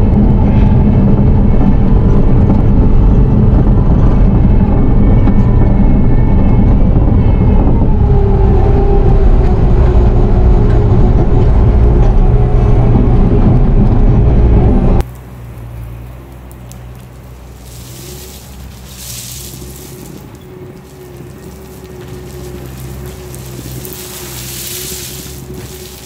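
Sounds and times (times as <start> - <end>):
whining tone: 0.0 - 15.0, 16.7 - 26.0
diesel engine running: 0.0 - 26.0.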